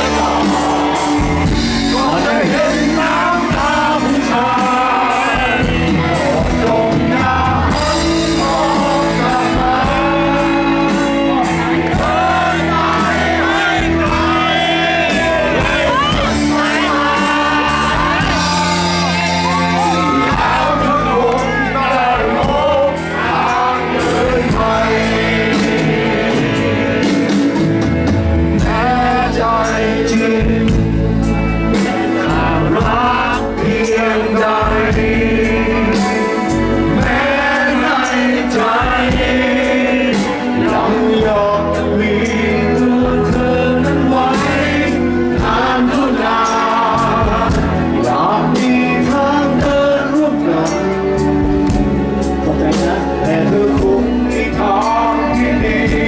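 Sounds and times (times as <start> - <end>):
man singing: 0.0 - 27.7, 28.5 - 56.0
electric bass: 0.0 - 56.0
guitars: 0.0 - 56.0
live rock band: 0.0 - 56.0
steady drum beat: 0.0 - 56.0.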